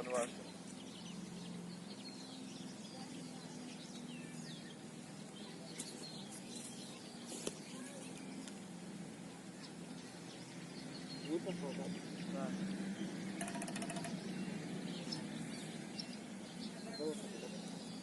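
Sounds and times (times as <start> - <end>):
steady low hum: 0.0 - 16.8
small birds chirping: 0.0 - 18.0.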